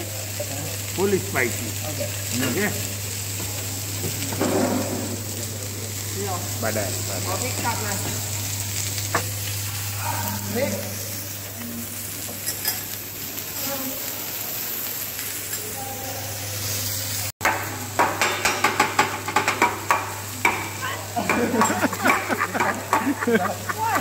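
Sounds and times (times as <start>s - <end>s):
vegetables sizzling on griddle: 0.0s - 24.0s.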